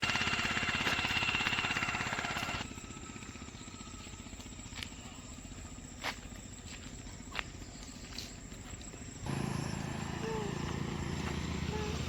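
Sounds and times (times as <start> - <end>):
engine running with even beat: 0.0 - 6.8, 9.0 - 12.0.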